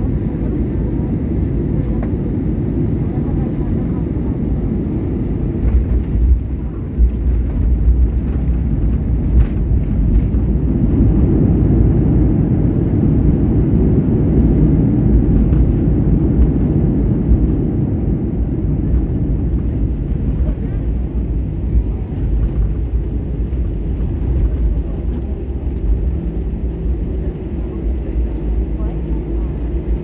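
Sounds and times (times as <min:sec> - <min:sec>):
jet engines and wheels rumbling: 0:00.0 - 0:30.0.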